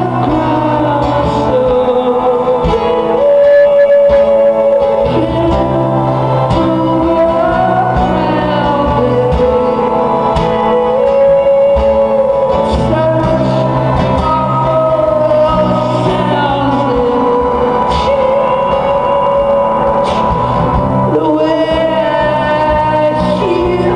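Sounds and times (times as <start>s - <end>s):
person singing: 0.0s - 23.9s
steady bass notes: 0.0s - 23.9s
sustained guitar tones: 0.0s - 23.9s.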